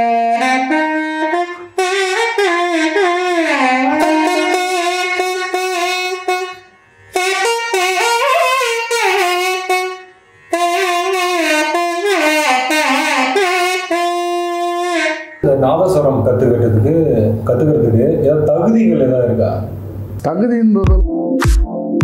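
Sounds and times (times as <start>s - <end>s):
nadhaswaram melody: 0.0s - 20.1s.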